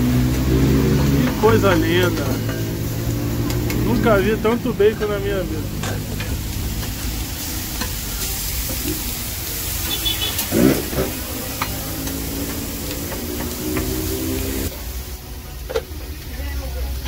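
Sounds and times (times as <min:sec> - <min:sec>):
meat sizzling on a griddle: 0:00.0 - 0:17.0.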